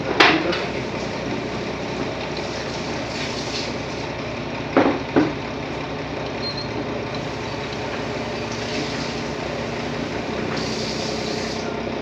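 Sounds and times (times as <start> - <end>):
diesel excavator running: 0.0 - 12.0.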